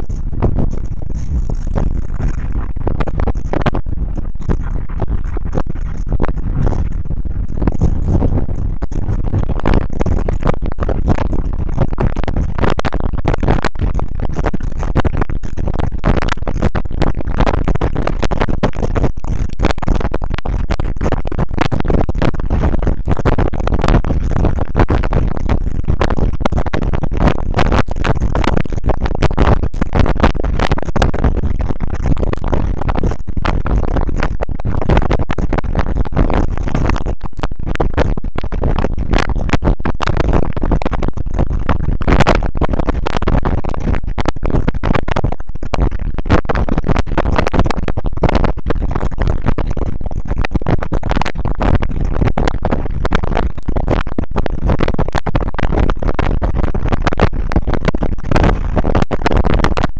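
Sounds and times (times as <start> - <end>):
irregular crackles: 0.0 - 59.9.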